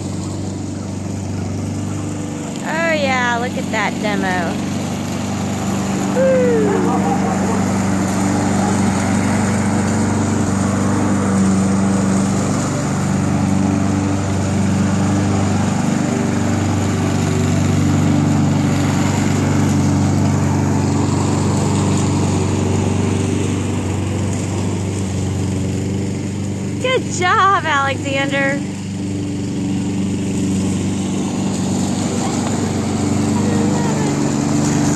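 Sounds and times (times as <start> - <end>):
lawn mower engine cutting grass: 0.0 - 34.9.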